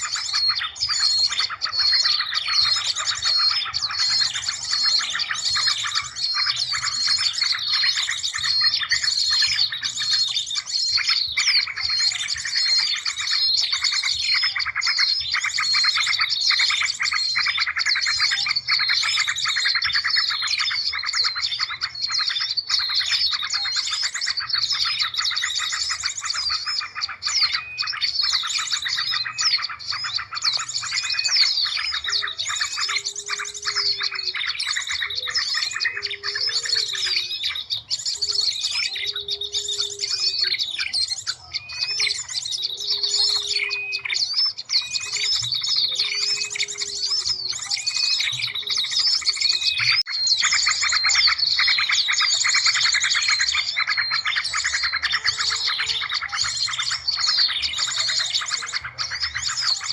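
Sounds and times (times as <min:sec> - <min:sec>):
small songbirds chirping and trilling: 0:00.0 - 0:59.9.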